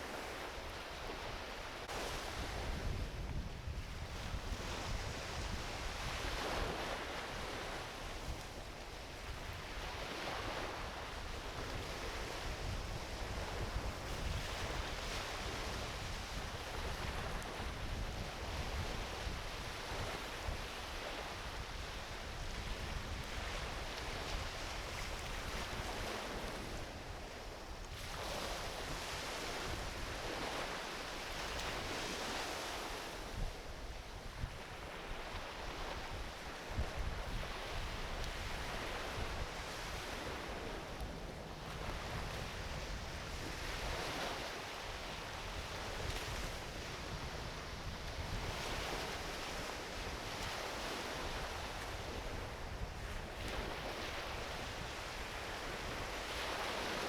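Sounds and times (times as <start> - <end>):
waves washing onto beach: 0.0 - 57.0
wind on microphone: 0.0 - 57.0.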